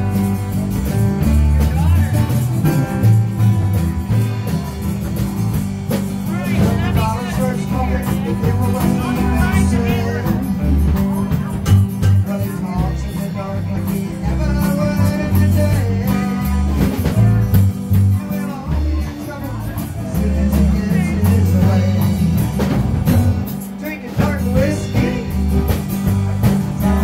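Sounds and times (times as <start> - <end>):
bass line: 0.0 - 27.0
strummed acoustic guitars: 0.0 - 27.0.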